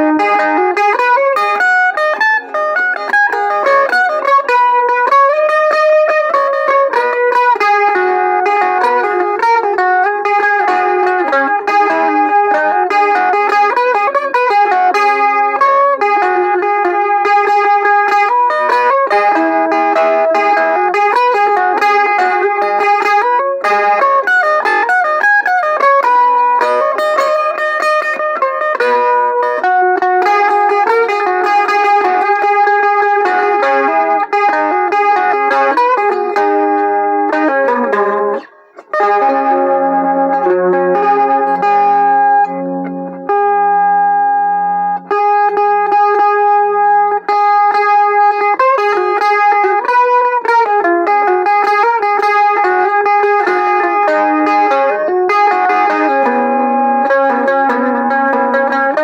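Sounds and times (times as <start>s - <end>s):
electric mandolin melody: 0.0s - 59.0s.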